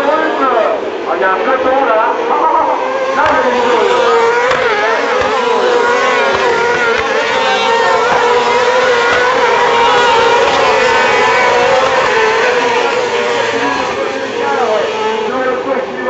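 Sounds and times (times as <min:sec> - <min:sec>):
racing buggy engines at high revs: 0:00.0 - 0:16.0.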